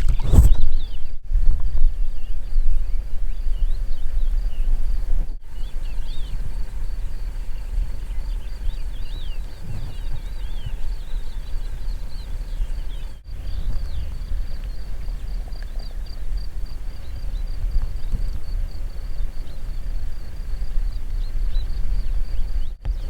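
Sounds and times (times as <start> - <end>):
constant low rumble: 0.0 - 23.0
small birds chirping: 0.0 - 23.0.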